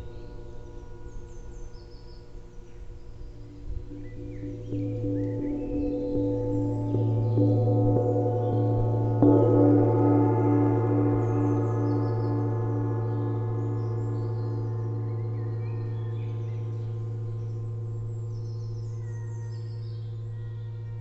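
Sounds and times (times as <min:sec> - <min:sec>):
faint bird chirps: 0:00.0 - 0:21.0
gong struck and ringing: 0:03.5 - 0:21.0.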